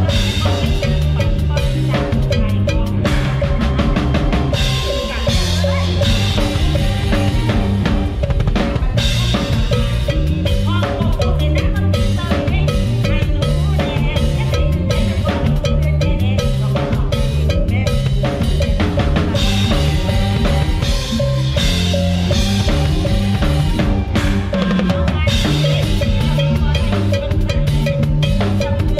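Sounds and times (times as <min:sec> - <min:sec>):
bass line: 0:00.0 - 0:28.9
drum kit played hard: 0:00.0 - 0:28.9
live band music: 0:00.0 - 0:28.9.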